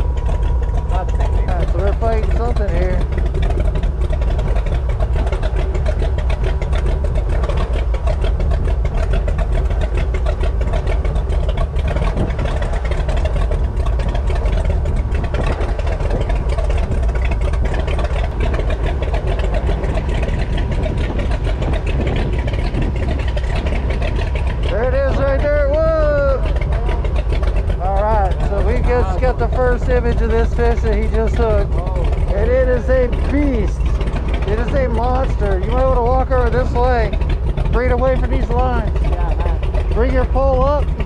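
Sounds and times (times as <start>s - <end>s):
boat motor running: 0.0s - 41.0s
water churning: 0.0s - 41.0s
wind rumble on microphone: 0.0s - 41.0s.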